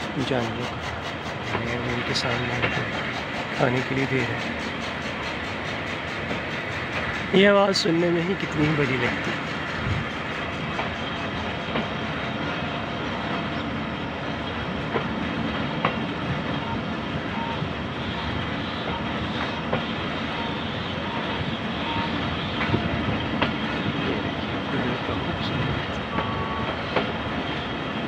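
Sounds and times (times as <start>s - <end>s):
train coach rumbling: 0.0s - 28.0s.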